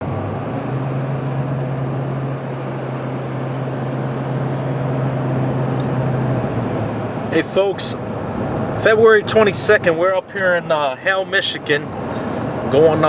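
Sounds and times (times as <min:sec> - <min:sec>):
vehicle engine and road hum: 0:00.0 - 0:13.0.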